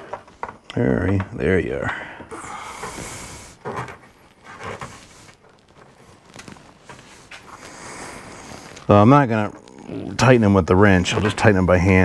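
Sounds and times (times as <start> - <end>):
carpet and trim rustling: 0.0 - 12.0.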